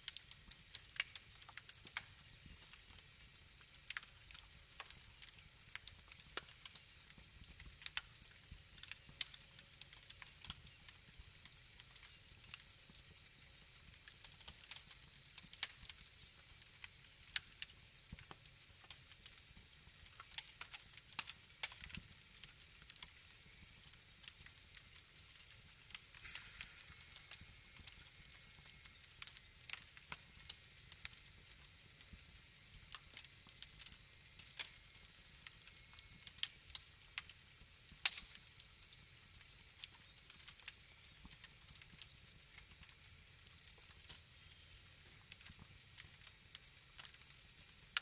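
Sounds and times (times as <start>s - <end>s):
soft steady hiss: 0.0s - 48.0s
wood fire crackling and popping: 0.0s - 48.0s.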